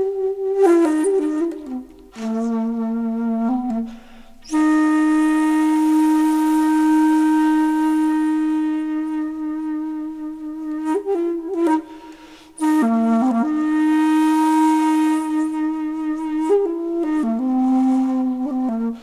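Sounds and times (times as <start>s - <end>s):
solo flute playing: 0.0s - 19.0s.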